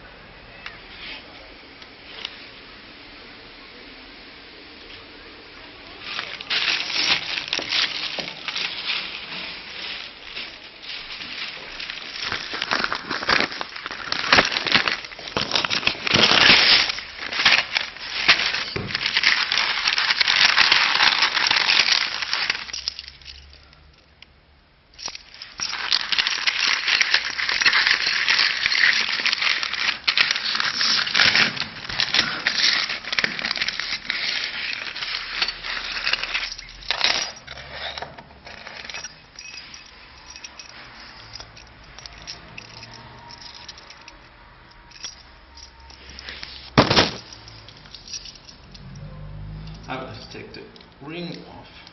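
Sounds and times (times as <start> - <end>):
material rustling and crinkling: 5.8 - 23.7, 25.0 - 48.7.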